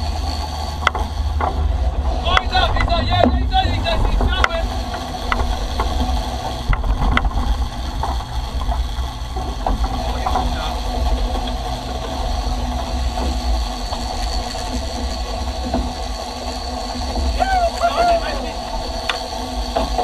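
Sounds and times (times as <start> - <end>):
boat engines running: 0.0 - 20.0
wake water rushing: 0.0 - 20.0.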